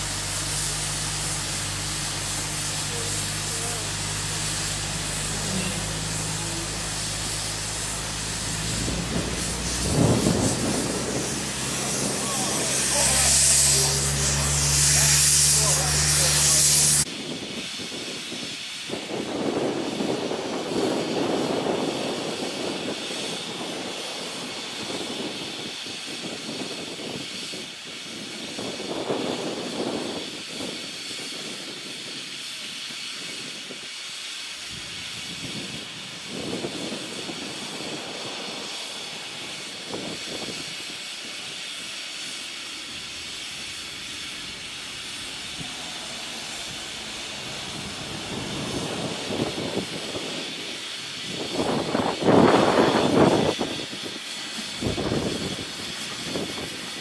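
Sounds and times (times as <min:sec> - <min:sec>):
loud hiss of steam: 0:00.0 - 0:57.0
low locomotive rumble: 0:00.0 - 0:57.0
steam locomotive hissing: 0:00.0 - 0:57.0.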